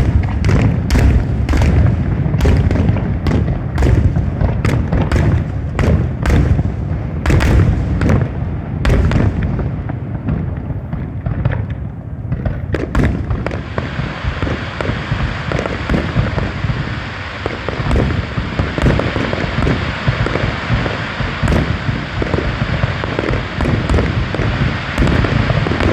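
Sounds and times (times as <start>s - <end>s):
firework bangs: 0.0s - 25.9s
fireworks crackling: 0.0s - 25.9s
low booming fireworks: 0.0s - 25.9s.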